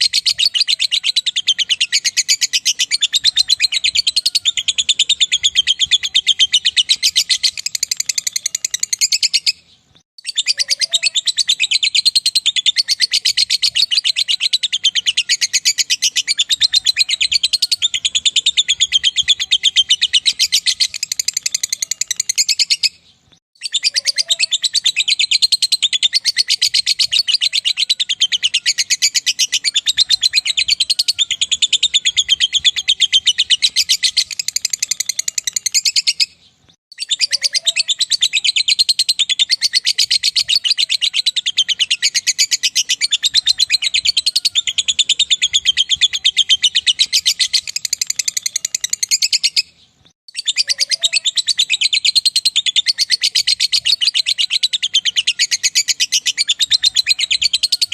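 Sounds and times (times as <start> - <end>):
lovebird chattering trill: 0.0 - 23.0, 23.6 - 57.9.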